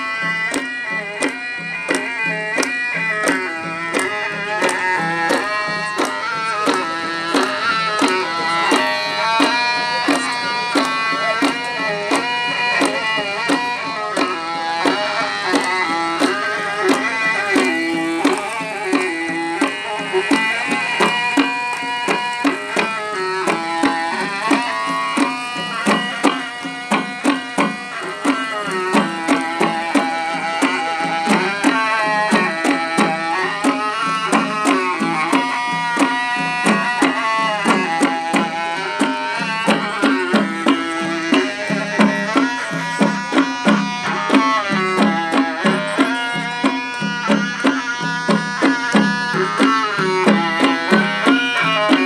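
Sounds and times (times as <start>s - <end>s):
double-headed drum beat: 0.0s - 52.0s
wooden reed pipe melody: 0.0s - 52.0s.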